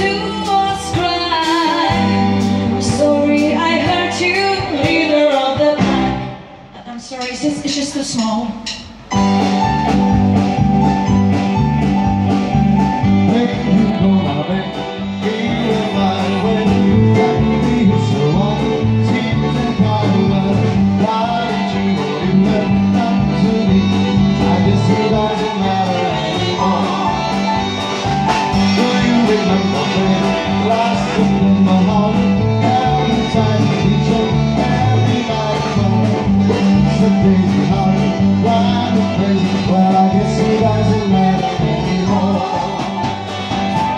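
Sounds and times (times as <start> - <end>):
walking bass line: 0.0 - 6.7, 7.8 - 43.9
electric guitar: 0.0 - 6.8, 8.8 - 43.9
piano: 0.0 - 6.8, 8.6 - 43.9
live rock and roll band: 0.0 - 43.9.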